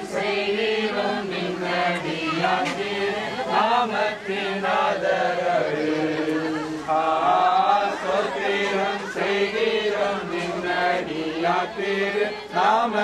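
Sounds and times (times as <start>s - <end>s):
congregation praying aloud: 0.0s - 13.0s.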